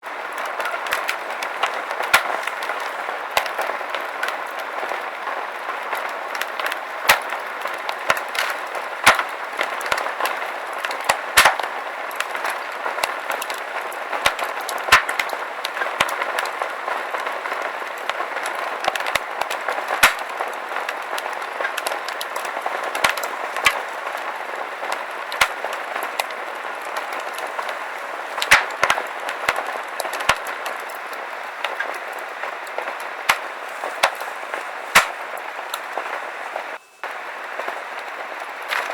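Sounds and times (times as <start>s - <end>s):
fire crackling with pops and snaps: 0.0s - 38.9s.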